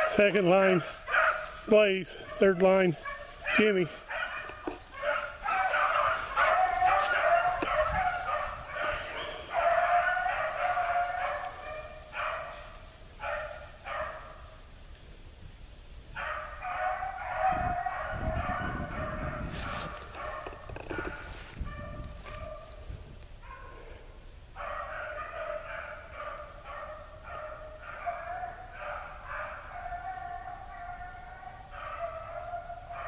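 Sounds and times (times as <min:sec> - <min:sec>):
hounds baying: 0:00.0 - 0:14.6, 0:16.2 - 0:24.0, 0:24.6 - 0:33.0.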